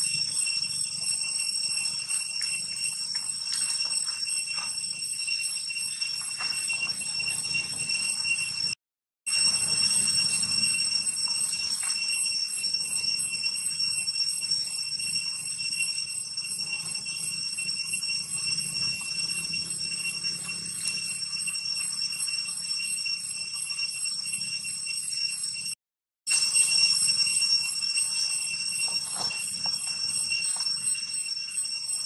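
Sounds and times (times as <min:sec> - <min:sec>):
shrill insect chorus: 0:00.0 - 0:32.0.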